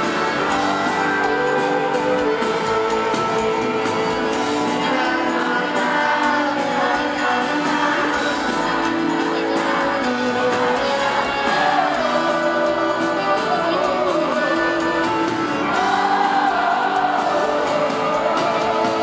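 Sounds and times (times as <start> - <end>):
live country band with singing: 0.0 - 19.0.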